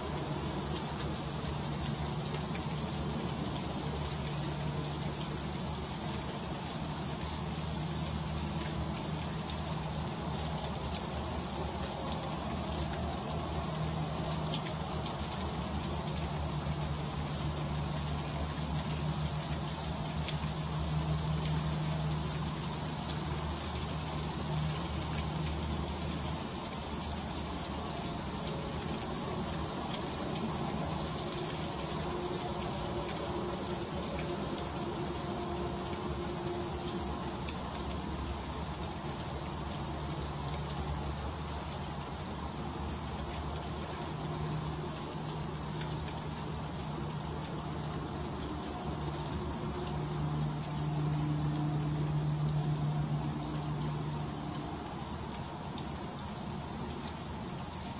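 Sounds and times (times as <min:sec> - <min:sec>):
freezing rain hissing: 0:00.0 - 0:57.9.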